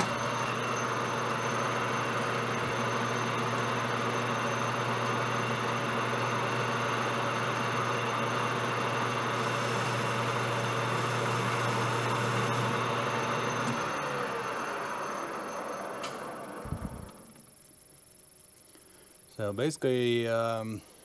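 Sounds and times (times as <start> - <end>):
metal lathe running: 0.0 - 17.2
lathe coasting down tone: 0.0 - 17.9.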